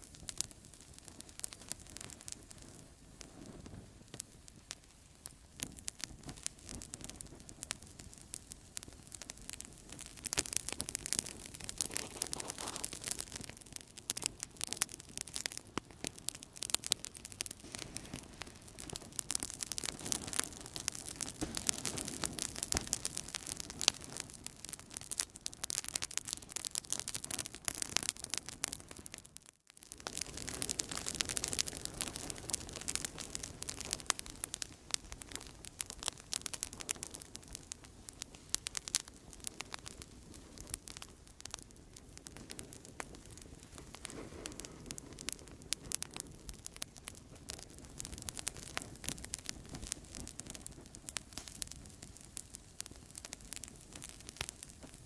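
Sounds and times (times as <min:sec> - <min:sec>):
hiss of burning wood: 0:00.0 - 0:28.7, 0:29.9 - 0:55.0
campfire crackling and popping: 0:00.0 - 0:55.0.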